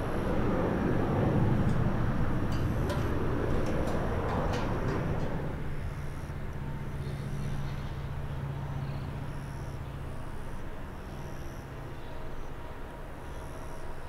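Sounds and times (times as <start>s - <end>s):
distant jet engines droning: 0.0s - 14.0s.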